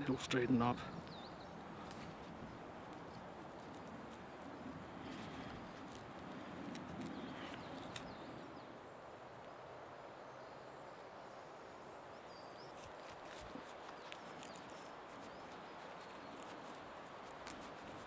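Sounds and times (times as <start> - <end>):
woodland ambience: 0.0 - 18.0.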